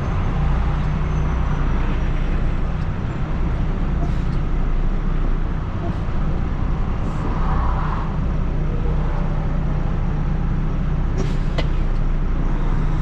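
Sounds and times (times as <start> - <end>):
road rumble: 0.0 - 13.0
truck engine drone: 0.0 - 13.0.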